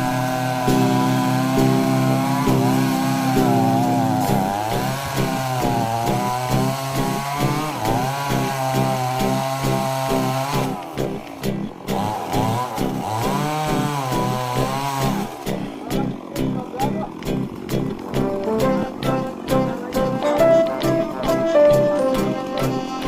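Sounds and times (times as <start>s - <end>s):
chainsaw cutting a tree: 0.0s - 23.0s.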